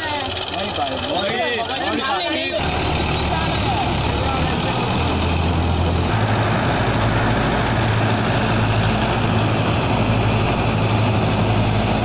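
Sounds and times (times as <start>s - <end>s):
thresher machine running: 0.0s - 12.0s
tractor engine hum: 0.0s - 12.0s.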